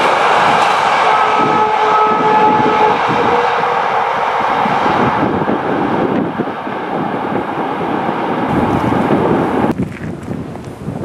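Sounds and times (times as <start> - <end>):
train wagons rolling on rails: 0.0 - 11.0
wind buffeting microphone: 0.0 - 11.0.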